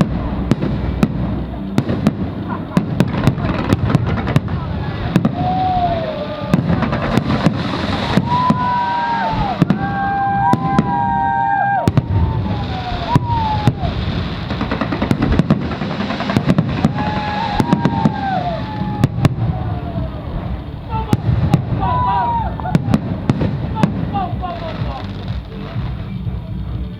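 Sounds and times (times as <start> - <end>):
continuous rumble: 0.0 - 26.9
fireworks bangs and crackling: 0.0 - 26.9.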